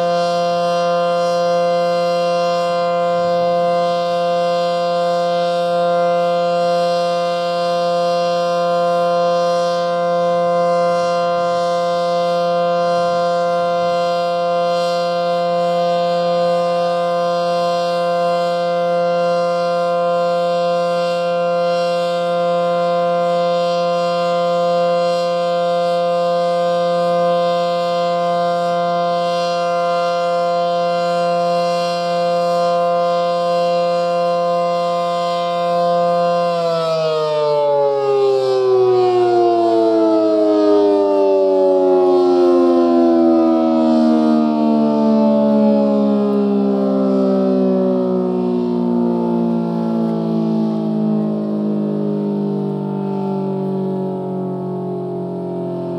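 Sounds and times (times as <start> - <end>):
siren steady alert tone: 0.0 - 55.9.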